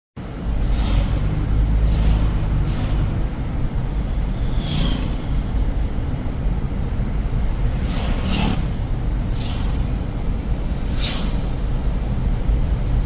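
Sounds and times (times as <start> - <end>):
traffic rumble: 0.2 - 13.0
tyres swishing on wet road: 0.2 - 13.0.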